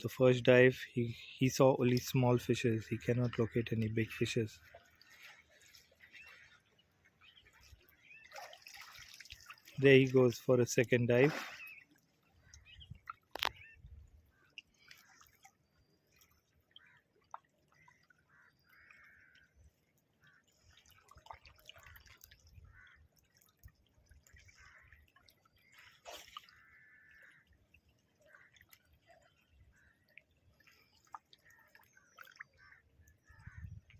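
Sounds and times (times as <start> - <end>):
water splashing and dripping: 0.1 - 33.9.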